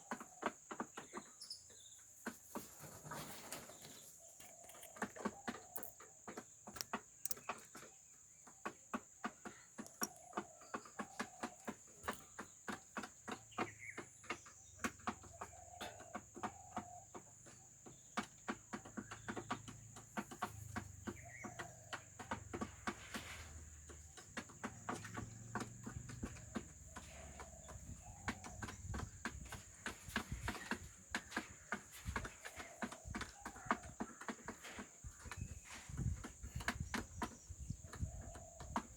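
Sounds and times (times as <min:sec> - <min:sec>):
chickens pecking at feed: 0:02.0 - 0:07.9, 0:08.6 - 0:38.9.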